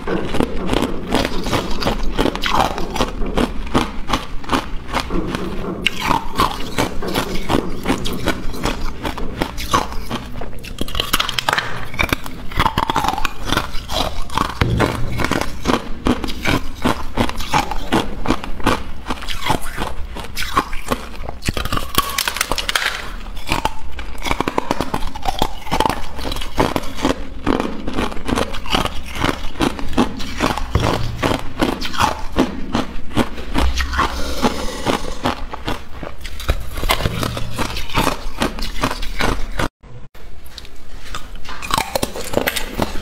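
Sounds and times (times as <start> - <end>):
ice crunching while chewed: 0.0 - 39.7, 40.4 - 43.0.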